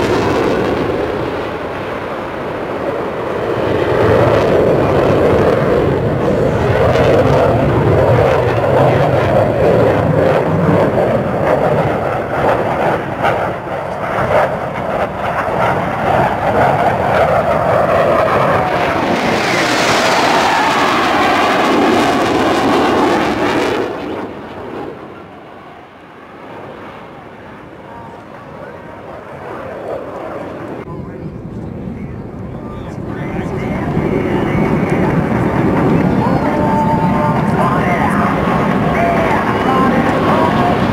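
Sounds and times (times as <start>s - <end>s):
jet roar passing: 0.0s - 40.9s.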